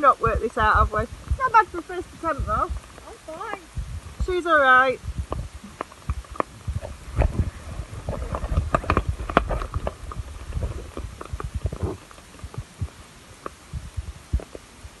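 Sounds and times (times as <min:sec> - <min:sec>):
low thumps: 0:00.1 - 0:15.0.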